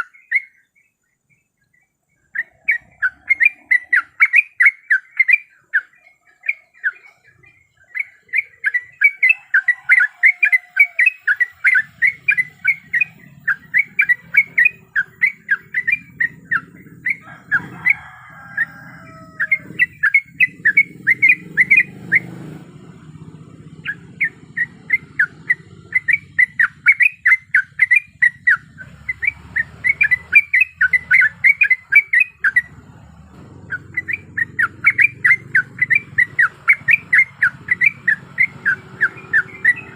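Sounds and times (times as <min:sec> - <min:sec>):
bird bubbling chirps: 0:00.0 - 0:32.9, 0:33.6 - 0:39.9.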